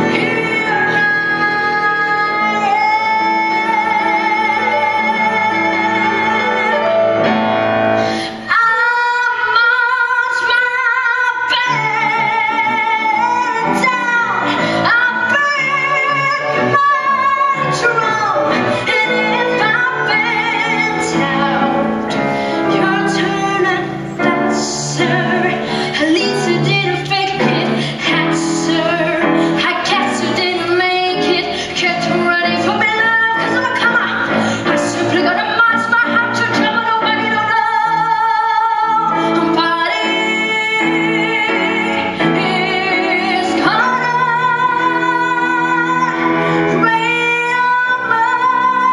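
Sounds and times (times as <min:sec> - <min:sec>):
violins and piano: 0:00.0 - 0:48.9.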